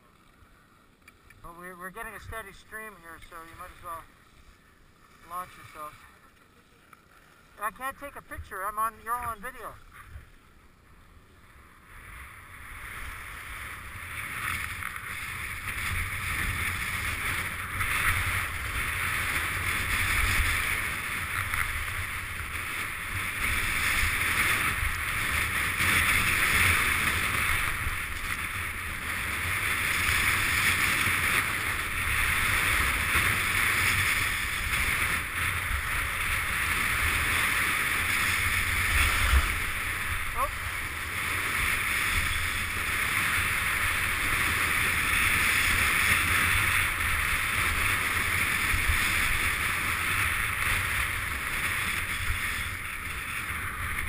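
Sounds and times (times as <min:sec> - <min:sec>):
skis scraping over snow: 0:00.0 - 0:54.0.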